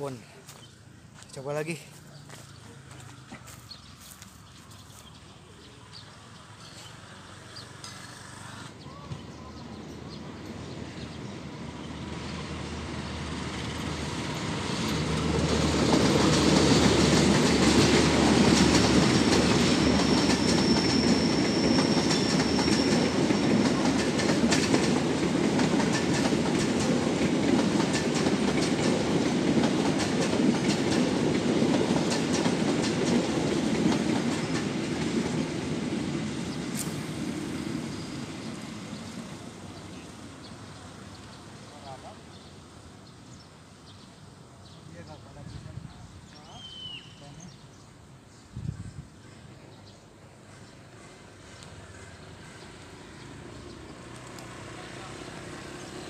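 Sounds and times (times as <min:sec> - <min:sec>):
passing train rumbling: 0:08.7 - 0:46.4, 0:47.7 - 0:56.0.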